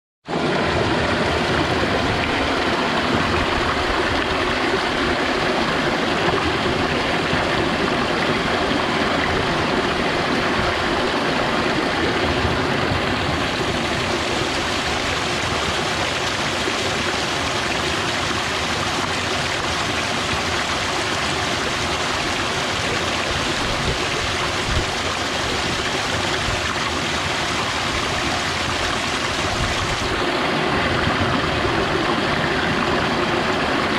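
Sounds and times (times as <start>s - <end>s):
stream rushing over rocks: 0.3s - 33.9s.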